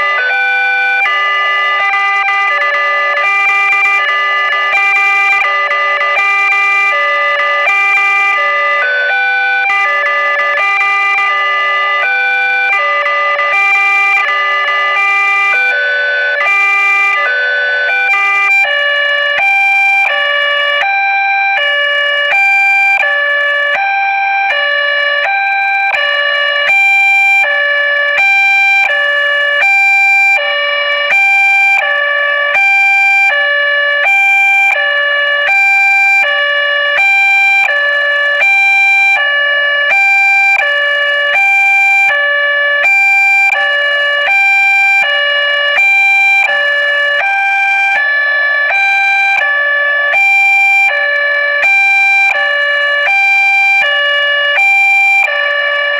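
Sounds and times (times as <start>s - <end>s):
electronic siren in stepped tones: 0.0s - 55.9s.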